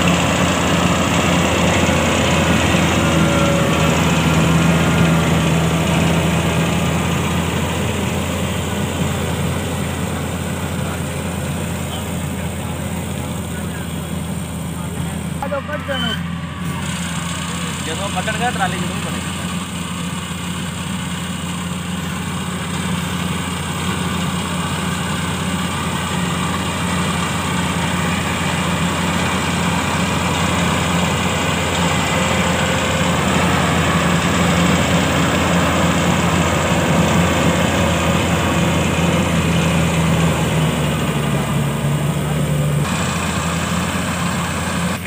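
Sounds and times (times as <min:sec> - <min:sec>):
combine harvester engine hum: 0:00.0 - 0:45.0.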